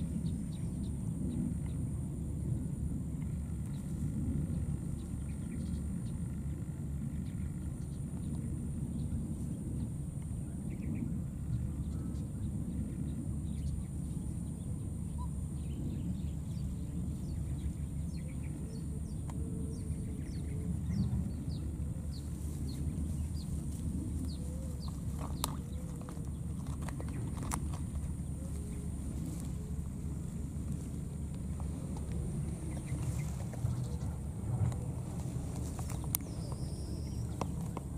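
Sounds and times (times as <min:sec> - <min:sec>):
wind rumbling on microphone: 0:00.0 - 0:37.9.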